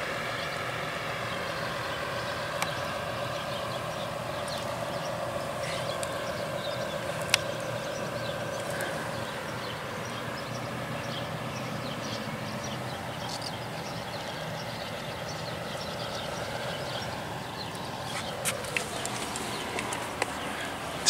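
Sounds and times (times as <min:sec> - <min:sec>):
outdoor background hum: 0:00.0 - 0:21.0
bird chirps: 0:01.3 - 0:21.0.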